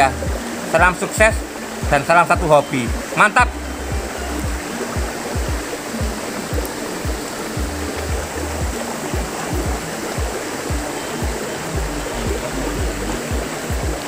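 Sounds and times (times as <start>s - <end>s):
flowing water rushing: 0.0s - 14.0s
music with thumping beat: 0.0s - 14.0s.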